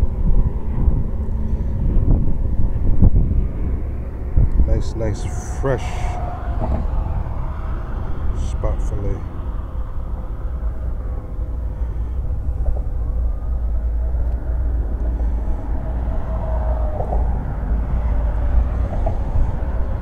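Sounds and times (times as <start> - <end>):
faint steady hum: 0.0 - 20.0
road traffic rumble: 0.0 - 20.0.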